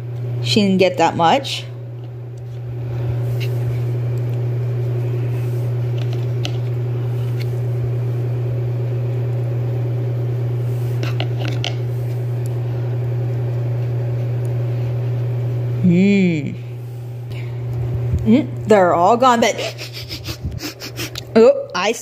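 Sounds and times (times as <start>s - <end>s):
low motor hum: 0.0s - 21.9s.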